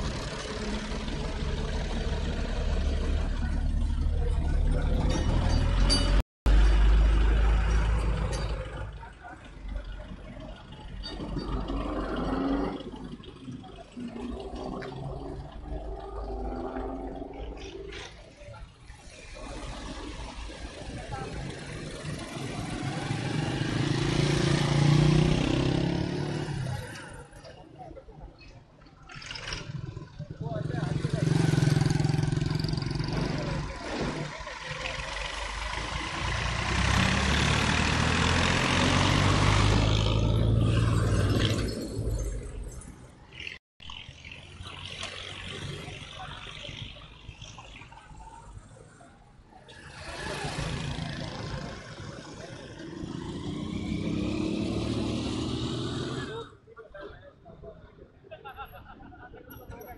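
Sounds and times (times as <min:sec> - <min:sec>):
truck engine passing: 0:00.0 - 0:17.8, 0:18.9 - 0:27.4, 0:29.2 - 0:56.6
road noise: 0:00.0 - 0:59.9.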